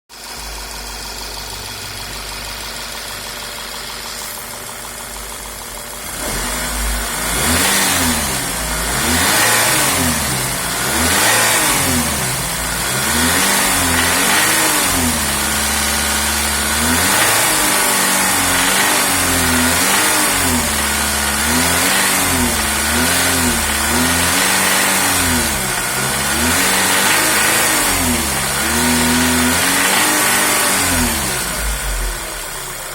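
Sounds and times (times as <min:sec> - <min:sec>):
car engine idling and revving: 0:00.1 - 0:32.9
engine knock: 0:00.1 - 0:32.9.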